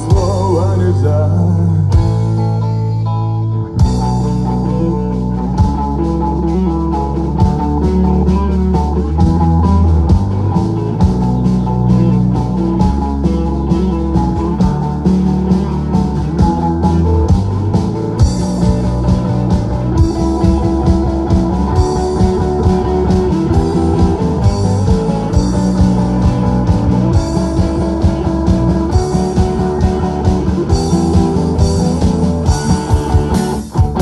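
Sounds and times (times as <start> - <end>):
drum beat: 0.0 - 0.8, 5.6 - 34.0
bass guitar: 0.0 - 34.0
electric guitars: 0.0 - 34.0.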